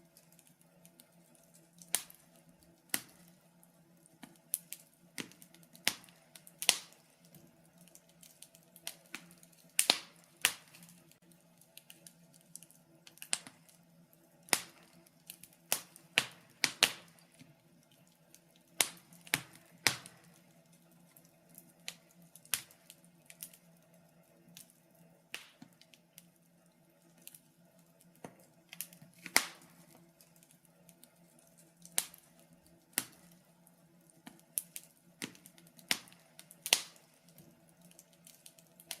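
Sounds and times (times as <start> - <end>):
faint steady hum: 0.0 - 39.0
wood fire crackling: 0.0 - 39.0.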